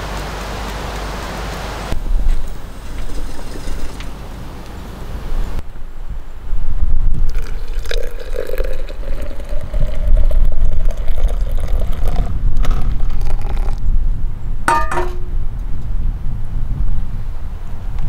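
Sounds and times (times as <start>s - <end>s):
wind buffeting microphone: 1.9s - 18.0s.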